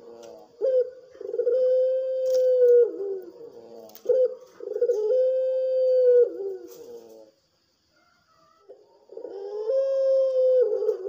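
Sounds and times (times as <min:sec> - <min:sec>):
dove cooing: 0:00.0 - 0:07.4, 0:08.0 - 0:11.0.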